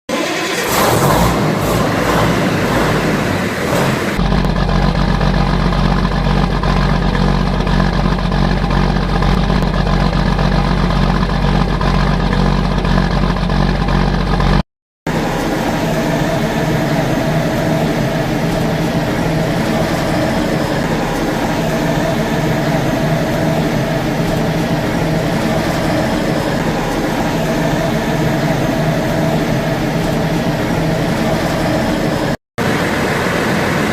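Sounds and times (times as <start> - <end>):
steady whine: 0.1 - 33.9
tractor diesel engine running: 0.1 - 33.9.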